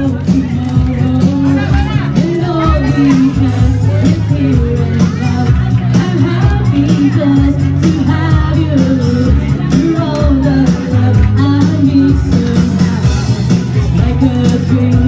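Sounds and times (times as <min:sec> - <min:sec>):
amplified backing track with bass: 0:00.0 - 0:15.0
women singing through microphone: 0:00.0 - 0:15.0.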